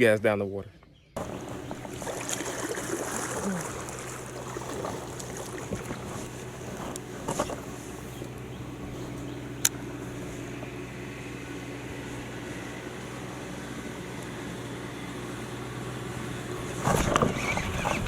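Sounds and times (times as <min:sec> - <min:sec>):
electric motor humming: 0:01.2 - 0:18.0.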